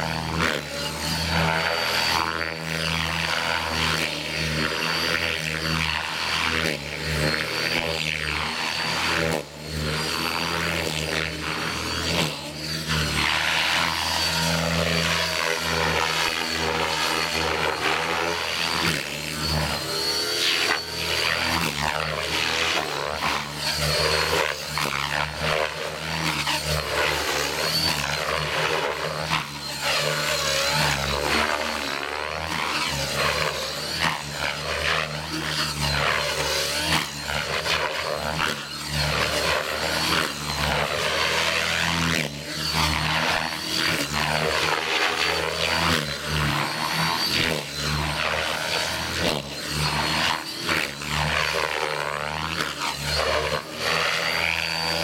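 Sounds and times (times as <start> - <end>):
helicopter rotor beating: 0.0 - 55.0
steady high whine: 0.0 - 55.0.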